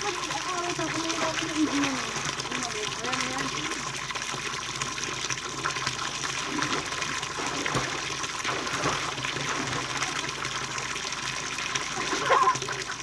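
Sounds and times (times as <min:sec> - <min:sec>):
running water splashing: 0:00.0 - 0:13.0.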